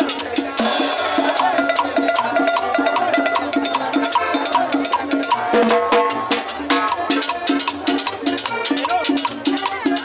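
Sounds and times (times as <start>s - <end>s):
cumbia band music: 0.0s - 10.0s.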